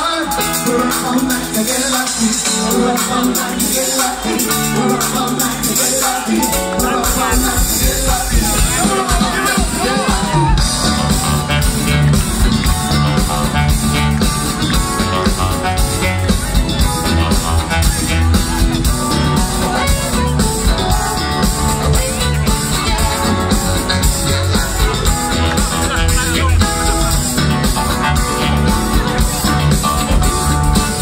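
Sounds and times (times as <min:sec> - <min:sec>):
bass line: 0:00.0 - 0:31.0
drum kit steady beat: 0:00.0 - 0:31.0
electric guitars: 0:00.0 - 0:31.0.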